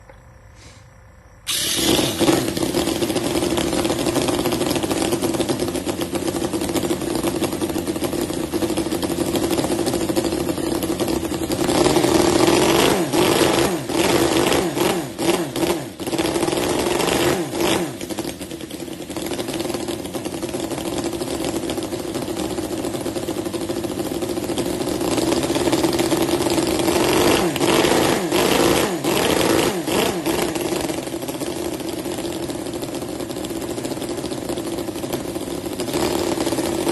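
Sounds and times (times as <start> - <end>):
model engine buzzing drone: 1.5 - 36.9
engine rapid knocks: 1.6 - 36.9.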